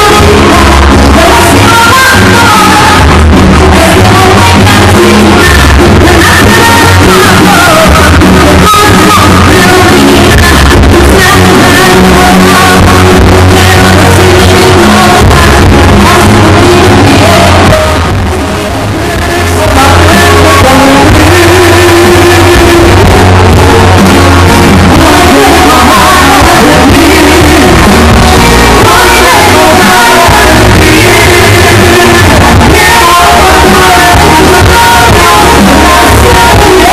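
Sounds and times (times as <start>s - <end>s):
live band playing: 0.0s - 36.9s
woman singing into microphone: 0.0s - 36.9s.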